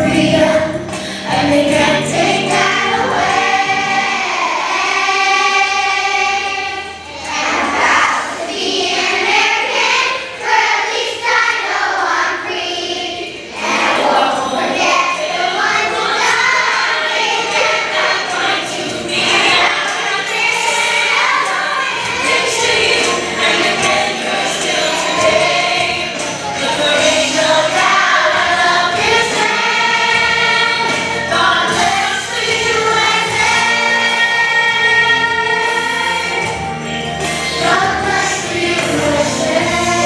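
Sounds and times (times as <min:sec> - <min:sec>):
children's choir singing: 0:00.0 - 0:40.0.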